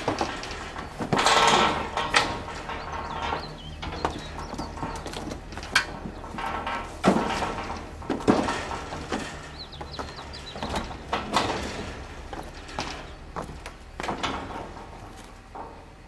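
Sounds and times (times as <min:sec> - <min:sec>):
metal gates clanking: 0:00.0 - 0:16.0.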